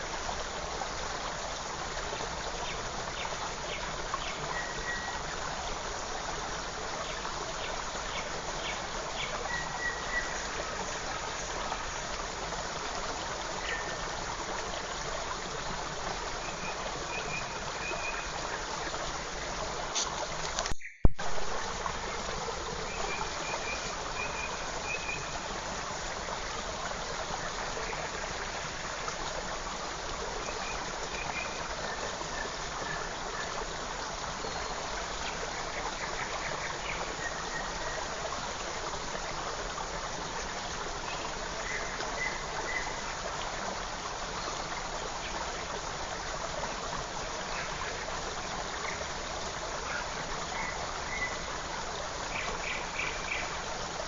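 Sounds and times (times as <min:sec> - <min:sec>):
creek flowing: 0:00.0 - 0:54.0.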